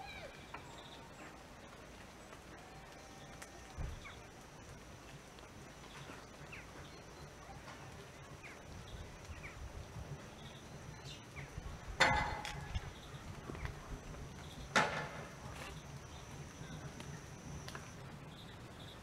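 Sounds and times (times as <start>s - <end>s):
low rumble of wind: 0.0s - 19.0s
small birds chirping: 0.0s - 19.0s.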